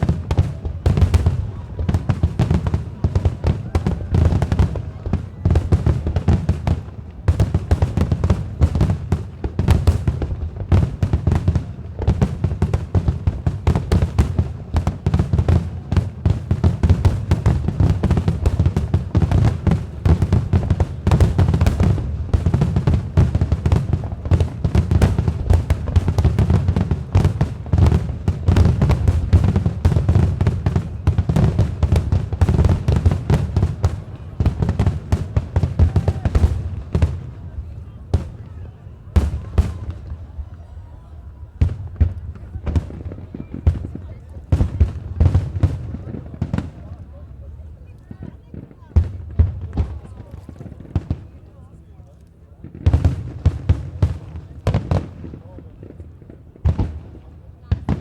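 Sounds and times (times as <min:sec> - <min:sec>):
fireworks bangs: 0:00.0 - 0:51.5, 0:52.6 - 0:58.0.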